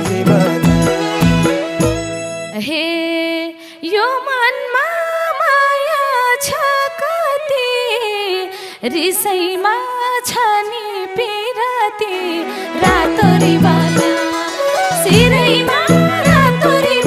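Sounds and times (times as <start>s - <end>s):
woman singing into a microphone: 2.5s - 17.0s.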